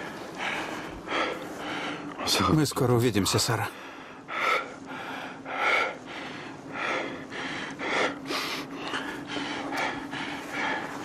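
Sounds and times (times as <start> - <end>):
man breathing heavily: 0.0 - 2.4, 3.7 - 11.0
faint steady hum: 0.0 - 11.0.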